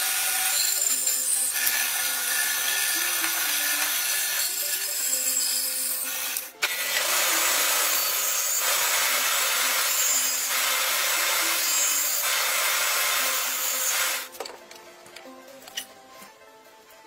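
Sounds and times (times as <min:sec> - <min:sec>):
power machine cutting wood: 0:00.0 - 0:14.3.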